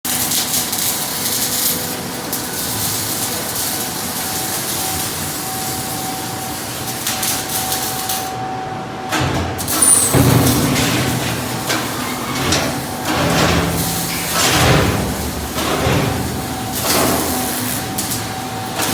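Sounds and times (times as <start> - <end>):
welding machine hiss: 0.1 - 18.9.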